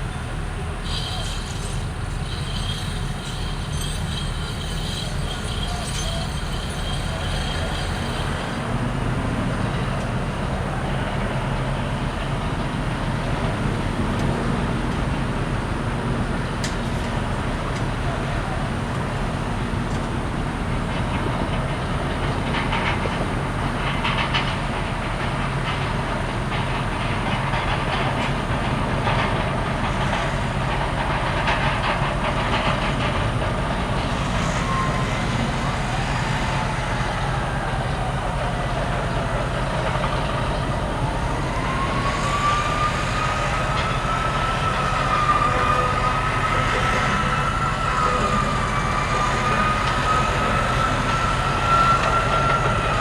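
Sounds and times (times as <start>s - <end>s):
low engine rumble: 0.0s - 53.0s.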